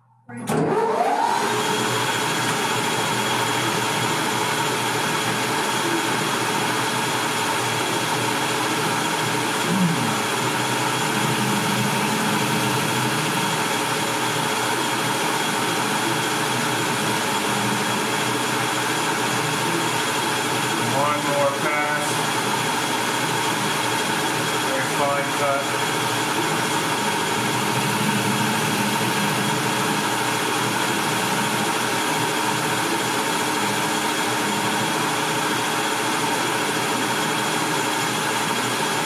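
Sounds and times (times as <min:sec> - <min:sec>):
metal lathe whirring: 0:00.4 - 0:39.0.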